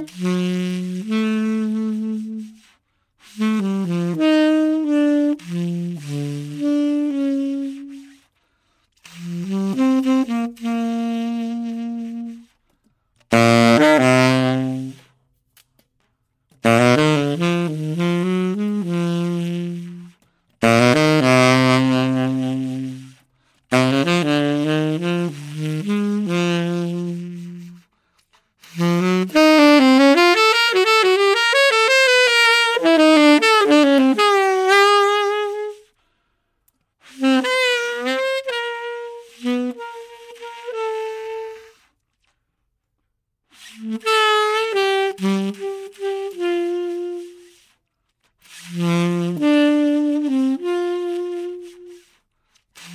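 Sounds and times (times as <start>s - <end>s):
solo saxophone: 0.0s - 52.9s.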